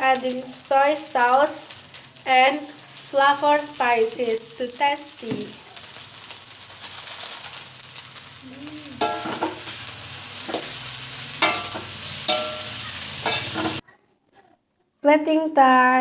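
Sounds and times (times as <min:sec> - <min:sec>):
rice sizzling in a frying pan: 0:00.0 - 0:13.8
spatula stirring and scraping: 0:00.0 - 0:13.8.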